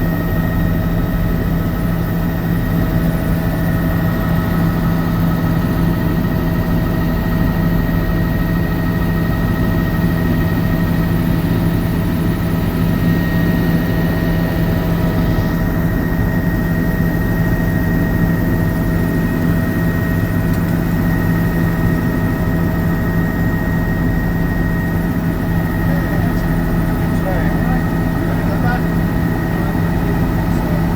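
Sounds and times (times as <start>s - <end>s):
helicopter drone: 0.0s - 30.9s.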